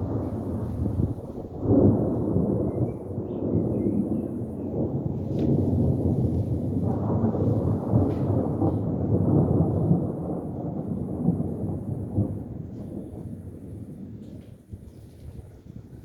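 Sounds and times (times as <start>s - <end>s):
rolling thunder rumble: 0.0s - 16.0s.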